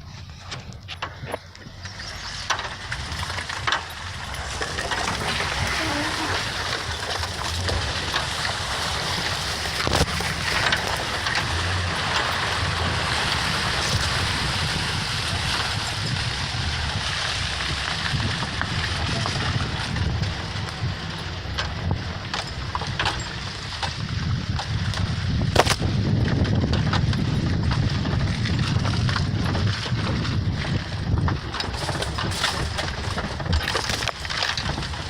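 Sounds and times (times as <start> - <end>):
constant rushing noise: 0.0 - 35.0
truck engine running: 0.0 - 35.0.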